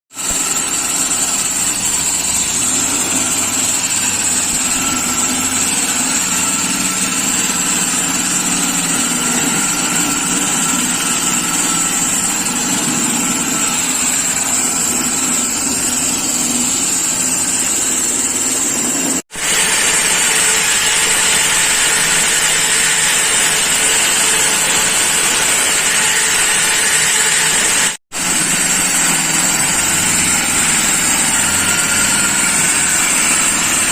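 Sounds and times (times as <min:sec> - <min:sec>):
floor saw cutting concrete: 0:00.1 - 0:33.9
high saw blade whine: 0:00.1 - 0:33.9.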